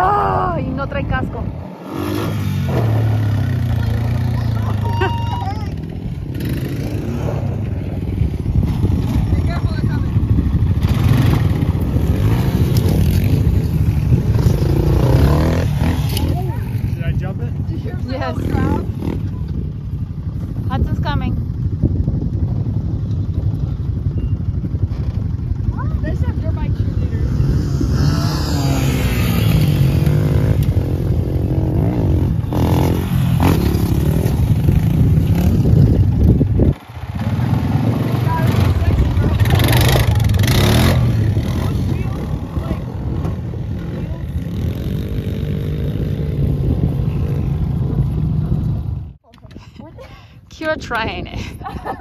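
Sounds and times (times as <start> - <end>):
atv engine running: 0.0 - 49.6
dirt bike engine running: 0.7 - 49.2.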